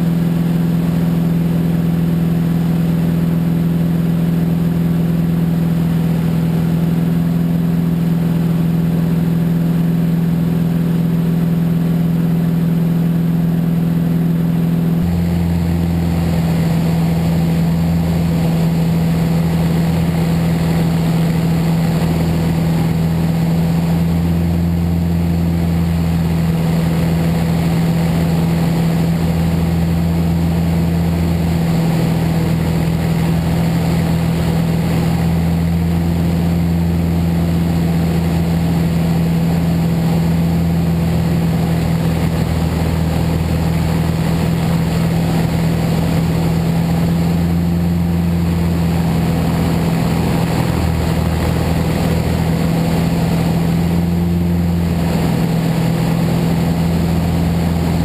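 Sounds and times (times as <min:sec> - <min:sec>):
plane engine and propeller droning: 0:00.0 - 0:58.0.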